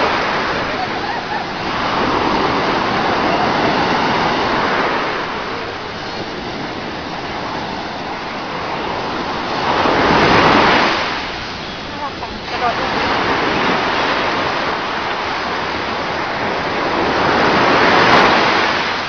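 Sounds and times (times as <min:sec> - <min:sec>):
waves washing on a shore: 0:00.0 - 0:19.0.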